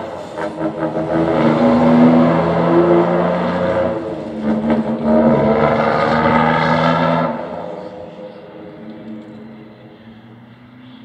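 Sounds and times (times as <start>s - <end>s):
truck engine pulling away: 0.0s - 11.0s.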